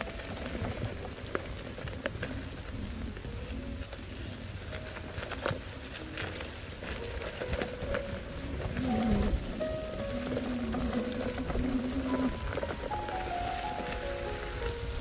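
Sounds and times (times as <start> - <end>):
hail pattering: 0.0 - 15.0.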